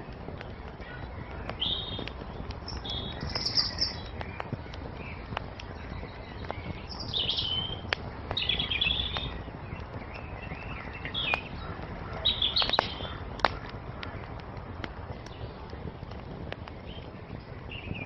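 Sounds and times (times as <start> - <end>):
songbirds chirping: 0.0 - 18.0
steady low hiss: 0.0 - 18.0
wood fire crackling and popping: 0.0 - 18.0.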